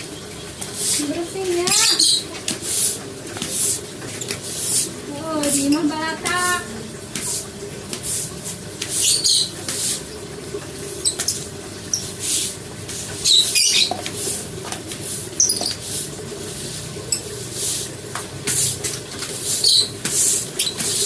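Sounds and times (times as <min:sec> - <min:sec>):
brush scrubbing a cage: 0:00.5 - 0:21.0.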